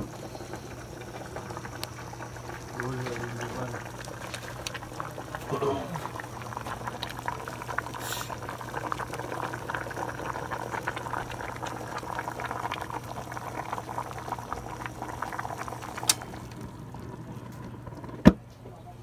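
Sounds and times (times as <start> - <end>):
soup boiling in a pot: 0.0 - 18.5.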